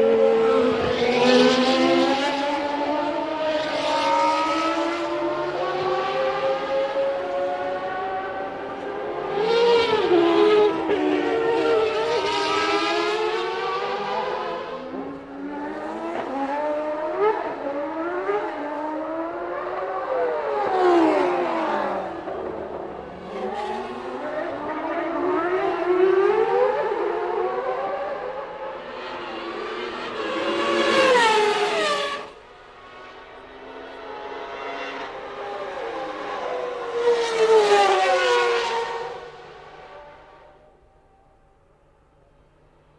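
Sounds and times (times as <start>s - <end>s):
racing car engines revving: 0.0s - 40.6s.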